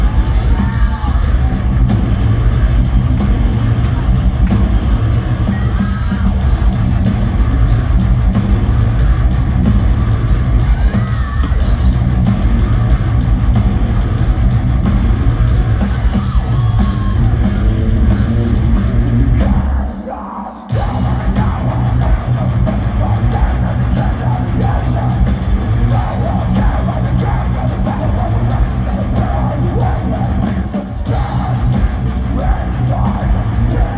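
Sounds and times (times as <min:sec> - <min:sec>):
heavy metal band playing live: 0:00.0 - 0:33.9.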